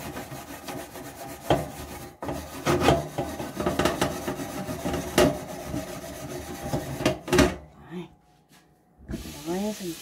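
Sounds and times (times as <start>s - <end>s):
scrubbing wire oven rack: 0.0s - 7.4s, 9.1s - 10.0s.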